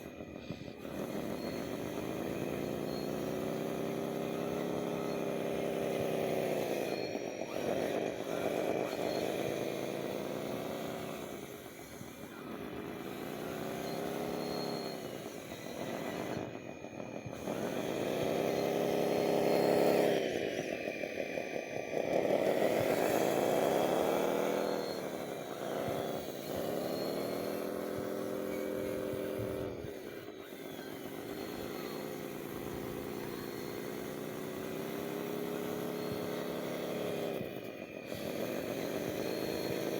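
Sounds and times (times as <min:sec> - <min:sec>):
model motor running: 0:00.0 - 0:39.9.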